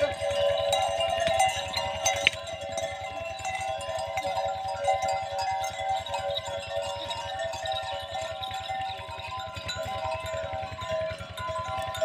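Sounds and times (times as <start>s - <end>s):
cattle bells ringing: 0.0s - 12.0s.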